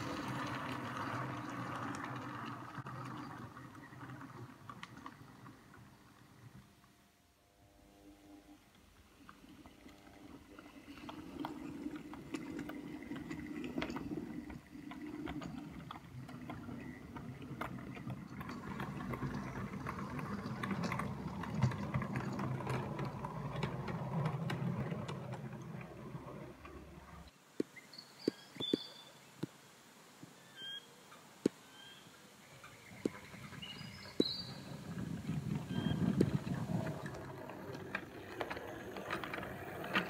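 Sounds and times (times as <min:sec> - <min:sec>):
wheels clicking over rail joints: 0:00.0 - 0:07.0, 0:08.7 - 0:27.4, 0:32.6 - 0:40.0
model locomotive motor whirring: 0:00.0 - 0:27.3, 0:33.1 - 0:40.0.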